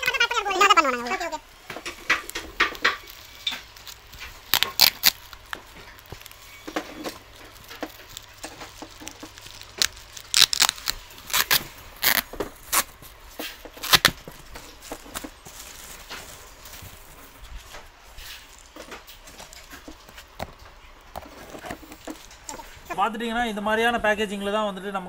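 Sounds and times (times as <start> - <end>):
plastic wrap crinkling: 0.0 - 23.0.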